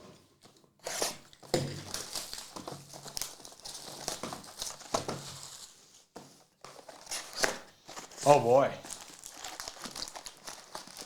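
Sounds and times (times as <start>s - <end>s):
plastic wrapping crinkling and tearing: 0.9s - 5.8s, 6.8s - 11.0s.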